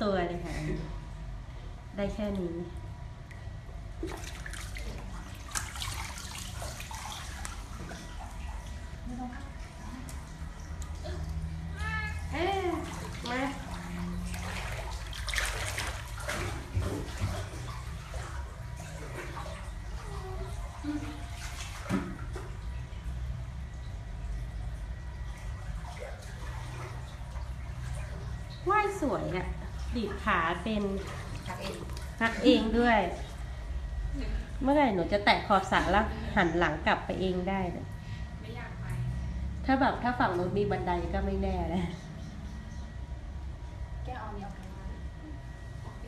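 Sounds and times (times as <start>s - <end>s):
pool water splashing: 0.0s - 42.4s
steady low hum: 0.0s - 46.0s.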